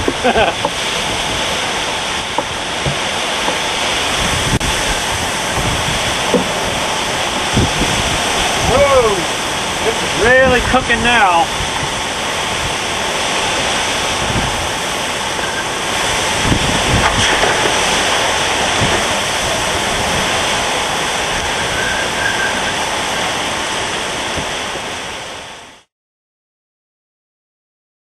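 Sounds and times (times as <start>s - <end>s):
wind buffeting microphone: 0.0s - 25.6s
strong wind and rain: 0.0s - 25.9s.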